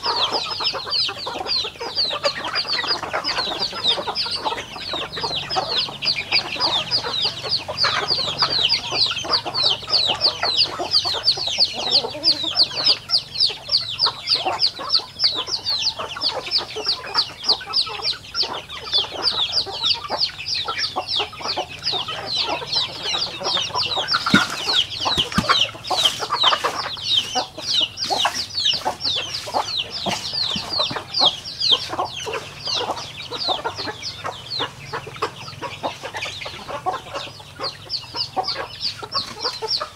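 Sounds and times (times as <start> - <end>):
chicks peeping: 0.0 - 39.9
hens and roosters clucking: 0.0 - 39.9.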